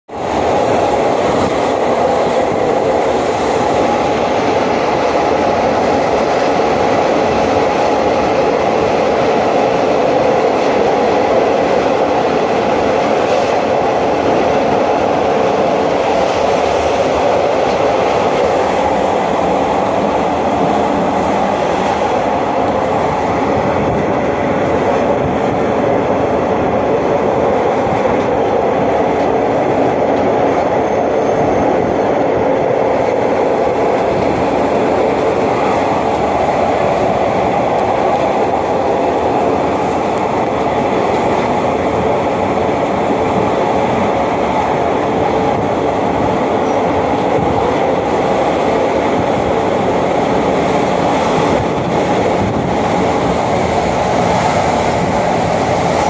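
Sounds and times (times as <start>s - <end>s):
train running noise from inside: 0.1s - 56.0s.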